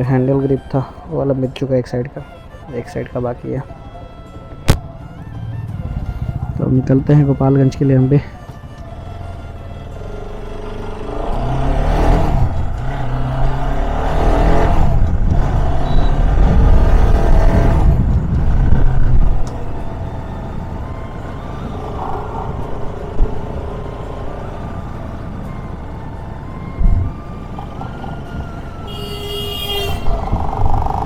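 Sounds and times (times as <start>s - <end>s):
motorcycle engine accelerating: 4.8s - 7.4s, 8.4s - 31.0s.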